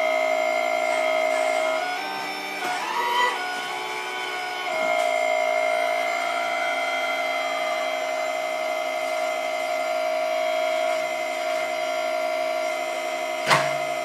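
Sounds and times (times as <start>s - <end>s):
hydraulic pump whine: 0.0s - 14.0s.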